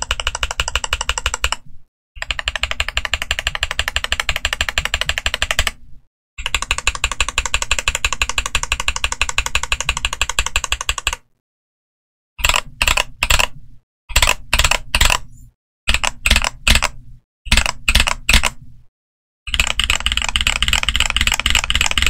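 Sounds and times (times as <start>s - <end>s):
mechanical keyboard typing: 0.0s - 5.8s, 6.4s - 11.3s, 12.4s - 15.3s, 15.9s - 18.6s, 19.5s - 22.0s.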